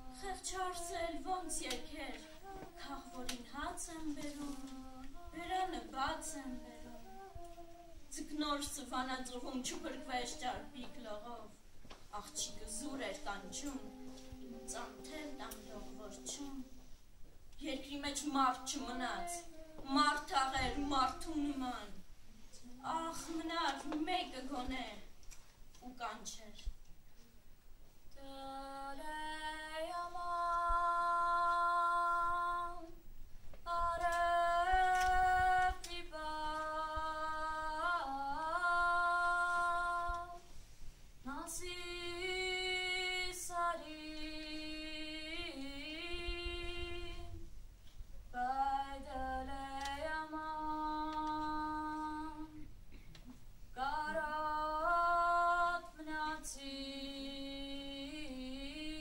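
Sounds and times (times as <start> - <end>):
girl singing unaccompanied: 0.0 - 27.3, 28.0 - 47.6, 48.2 - 52.9, 53.7 - 59.0.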